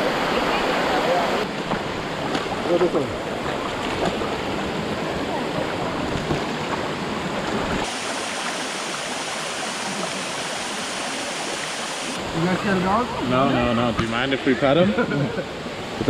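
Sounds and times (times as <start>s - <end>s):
rushing waterfall: 0.0s - 16.0s.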